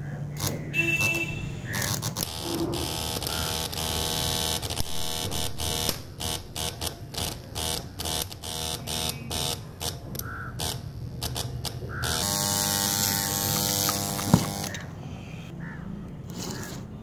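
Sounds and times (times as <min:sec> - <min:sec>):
welding arc buzzing and crackling: 0:00.4 - 0:14.8.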